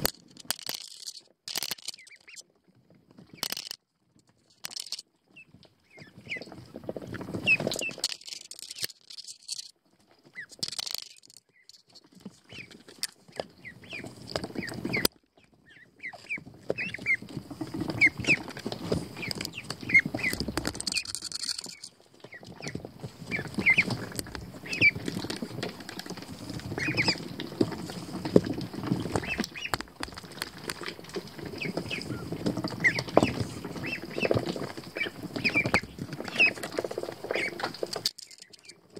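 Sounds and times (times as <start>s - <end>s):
ducklings peeping: 1.7s - 2.4s, 5.2s - 38.9s.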